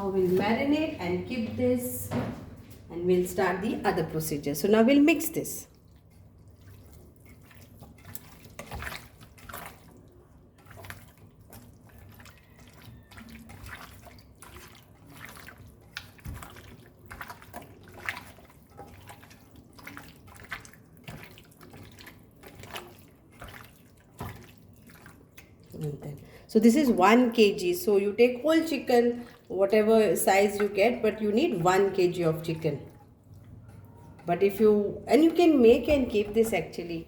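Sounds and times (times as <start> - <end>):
wet squishing of meat in marinade: 5.5 - 37.0.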